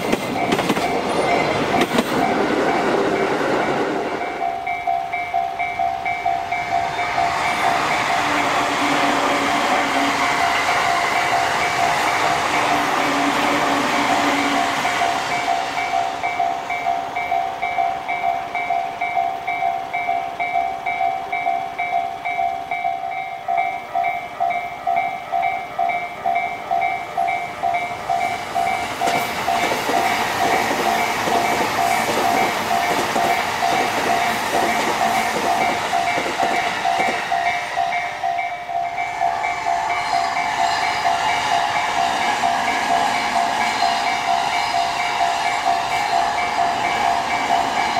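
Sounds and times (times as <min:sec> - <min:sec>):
train wheels clattering on rails: 0:00.0 - 0:23.0, 0:24.0 - 0:47.9.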